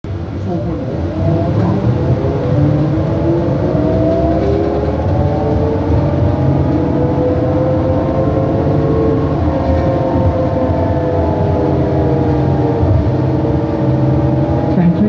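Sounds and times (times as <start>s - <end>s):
bus drivetrain rumble: 0.0s - 15.0s
bus whining tones rising: 0.0s - 15.0s.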